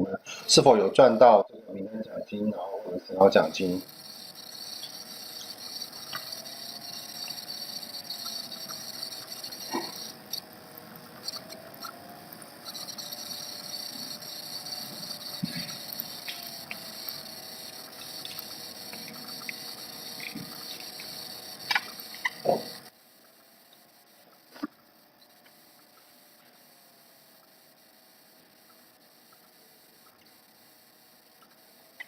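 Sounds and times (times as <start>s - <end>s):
microphone hiss: 0.0s - 26.6s
faint wavering hum: 0.0s - 32.0s.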